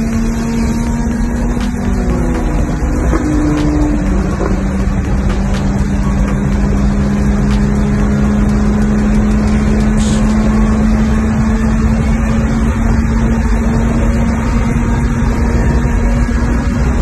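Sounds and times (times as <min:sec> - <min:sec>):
car engine accelerating: 0:00.0 - 0:17.0
road and wind rumble: 0:00.0 - 0:17.0.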